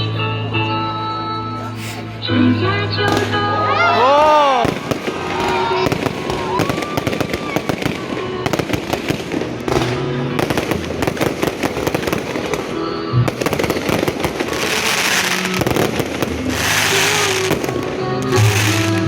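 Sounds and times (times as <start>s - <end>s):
fireworks cracking and popping: 3.0s - 19.0s.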